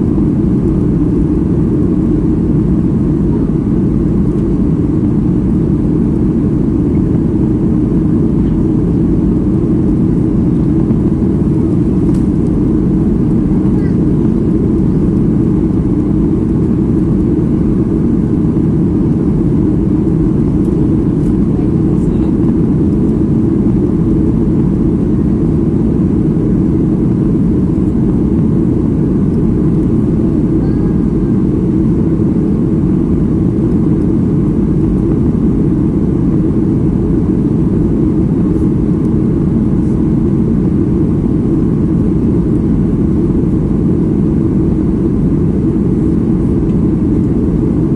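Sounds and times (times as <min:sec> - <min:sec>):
aircraft cabin engine noise: 0:00.0 - 0:47.9.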